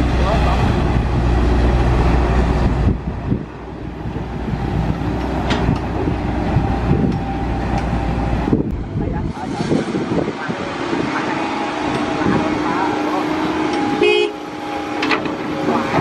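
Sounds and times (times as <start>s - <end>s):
diesel truck engine rumble: 0.0s - 16.0s
vehicle moving away: 0.0s - 16.0s.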